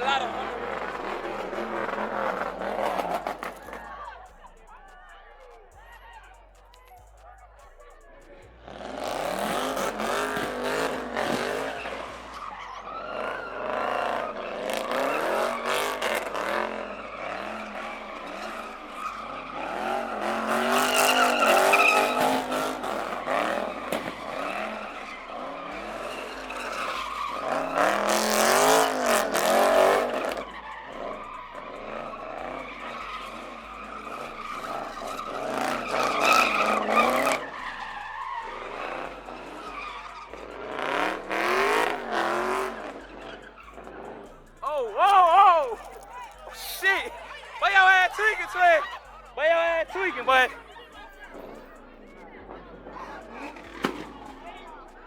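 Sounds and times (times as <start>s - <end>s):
car engine revving hard: 0.0s - 6.5s, 7.2s - 44.8s
tire squeal: 0.0s - 55.0s.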